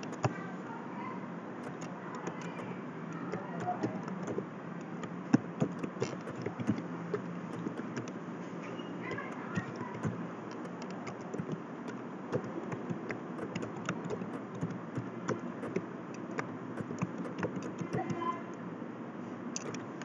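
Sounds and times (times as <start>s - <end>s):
keyboard keystroke clicks: 0.0s - 0.4s, 1.6s - 8.2s, 9.1s - 18.2s, 19.6s - 19.9s.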